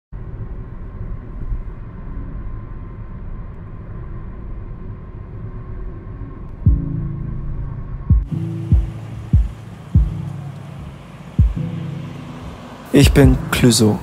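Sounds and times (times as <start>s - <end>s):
low rumbling: 0.1s - 13.6s
low held tone: 0.2s - 13.6s
faint steady hum: 0.2s - 13.7s.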